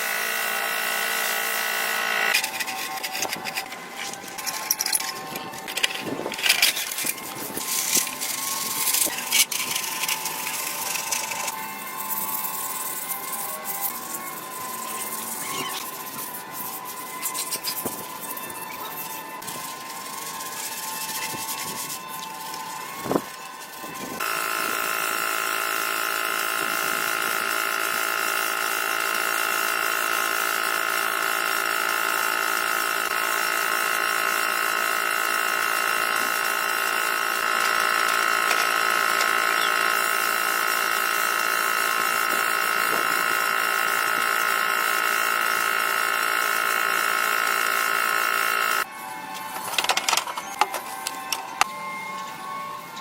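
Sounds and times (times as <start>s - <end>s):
electric motor whining: 0.0s - 53.0s.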